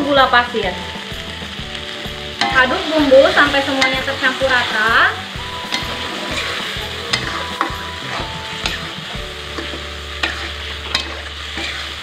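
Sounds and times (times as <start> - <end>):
frying sizzle: 0.0 - 12.0
steel spatula scraping wok: 1.8 - 12.0.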